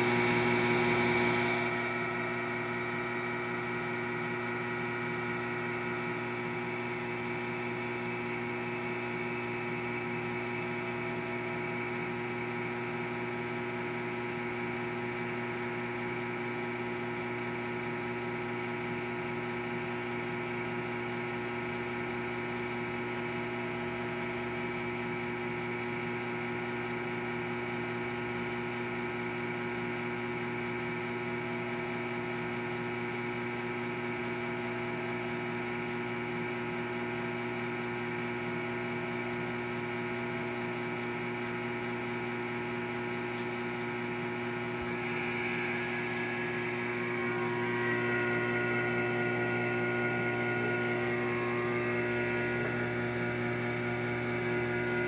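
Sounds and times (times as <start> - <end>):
electrical hum with steady tones: 0.0 - 55.0.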